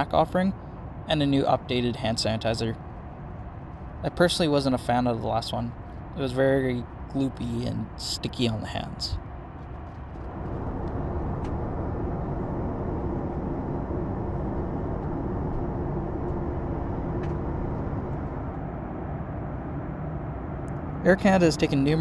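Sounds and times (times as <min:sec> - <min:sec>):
airliner cabin airflow rush: 0:00.0 - 0:22.0
low steady hum: 0:00.0 - 0:22.0.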